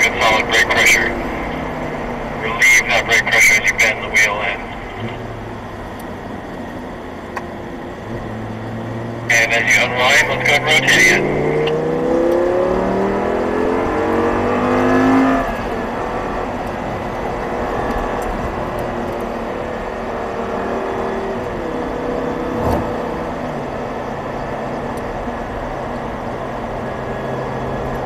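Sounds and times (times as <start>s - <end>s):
sports car engine accelerating: 0.0s - 28.0s.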